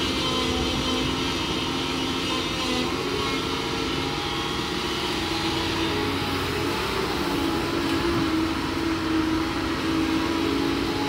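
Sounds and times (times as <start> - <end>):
diesel engine under load: 0.0 - 11.0
hydraulic whine: 0.0 - 11.0.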